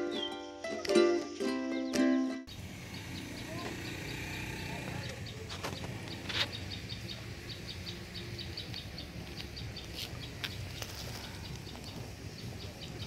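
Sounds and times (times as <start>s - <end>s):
rapid high chirping: 1.9s - 13.0s.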